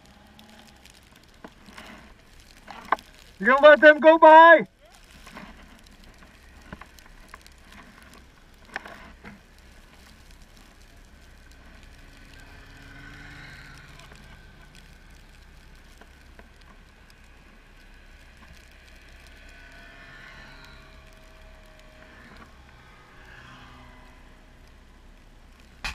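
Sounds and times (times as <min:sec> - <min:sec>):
low steady rumble: 0:00.0 - 0:25.9
snowmobile engines approaching: 0:00.0 - 0:25.9.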